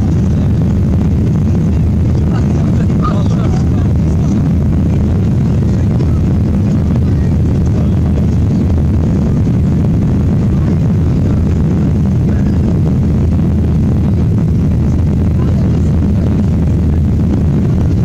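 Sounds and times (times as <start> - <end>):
jet engines at climb power: 0.0 - 18.0.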